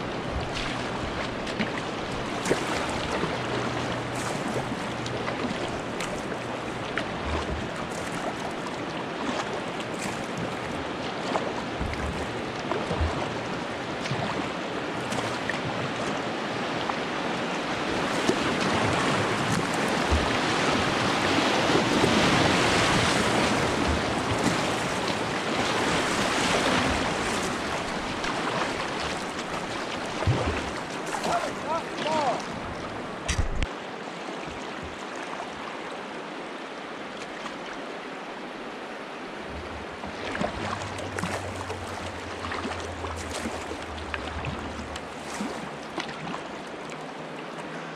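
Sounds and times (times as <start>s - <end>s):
whitewater roaring: 0.0s - 47.9s.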